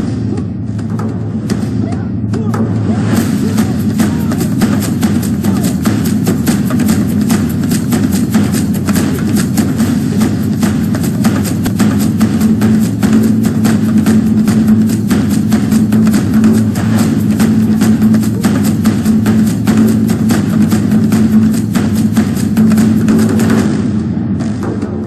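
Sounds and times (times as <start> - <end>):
fast steady drumbeat: 0.0 - 25.0.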